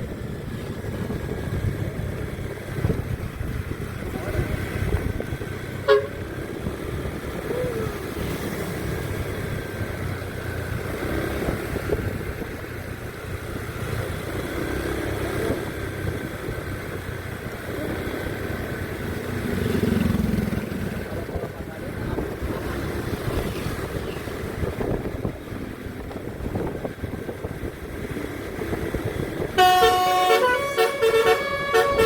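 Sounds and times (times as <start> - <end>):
vehicle engines rumbling in traffic: 0.0 - 32.0.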